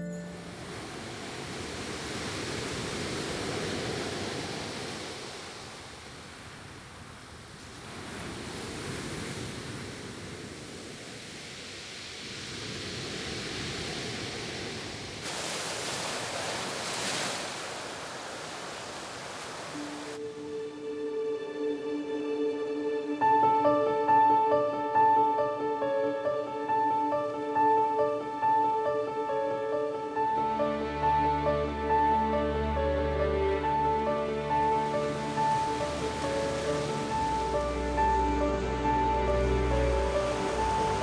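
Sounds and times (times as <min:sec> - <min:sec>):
sea surf washing: 0:00.2 - 0:41.0.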